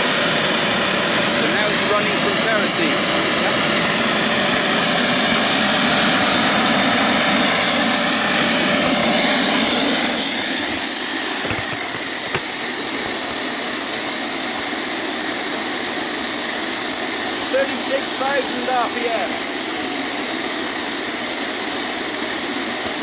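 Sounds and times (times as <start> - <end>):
high turbine whine: 0.0 - 23.0
jet engine roaring: 0.0 - 23.0.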